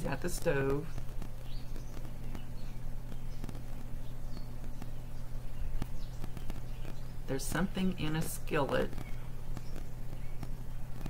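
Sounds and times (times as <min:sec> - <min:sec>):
faint clicks and crackles: 0:00.0 - 0:11.0
low electrical hum: 0:00.0 - 0:11.0
static hiss: 0:00.0 - 0:11.0.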